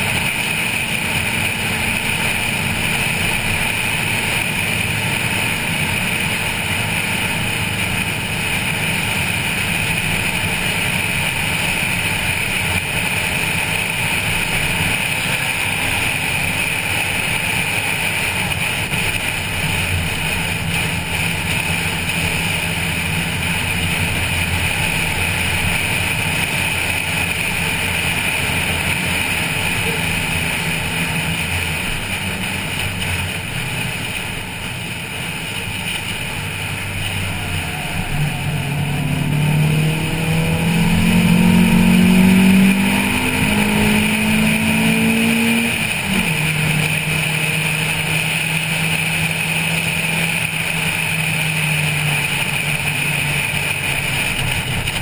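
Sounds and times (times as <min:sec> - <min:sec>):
car engine running hard: 0:00.0 - 0:55.0.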